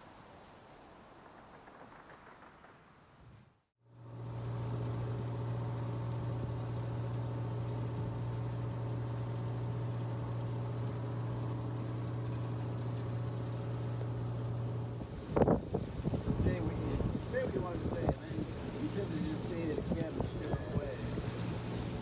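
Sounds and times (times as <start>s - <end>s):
boat engine humming: 3.9s - 22.0s.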